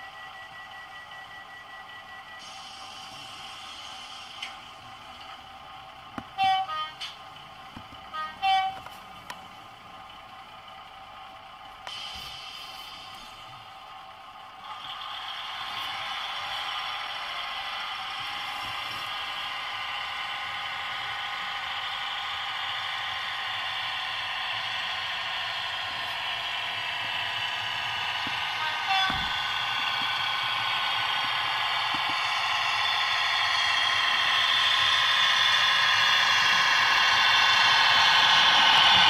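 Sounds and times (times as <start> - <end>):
model train diesel engine sound: 0.0 - 39.0.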